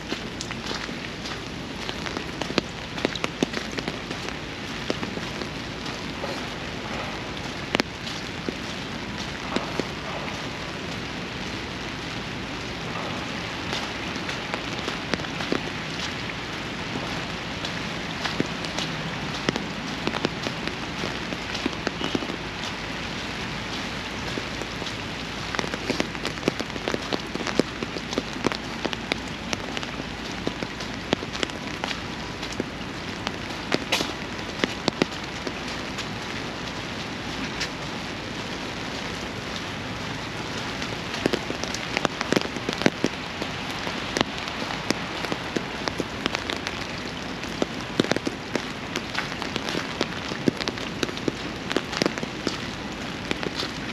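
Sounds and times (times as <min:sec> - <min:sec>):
rain falling: 0:00.0 - 0:53.9
sharp close raindrop taps: 0:00.0 - 0:53.9.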